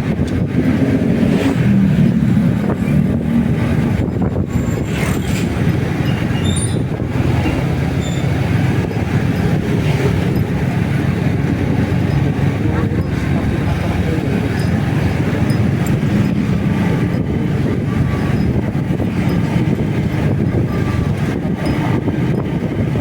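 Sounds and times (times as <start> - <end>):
motorcycle engine running: 0.0 - 23.0
wind rushing on microphone: 0.0 - 23.0.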